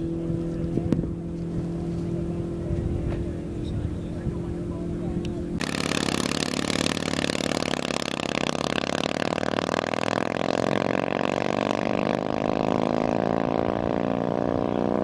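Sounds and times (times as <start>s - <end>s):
race vehicle engine running: 0.0s - 15.0s.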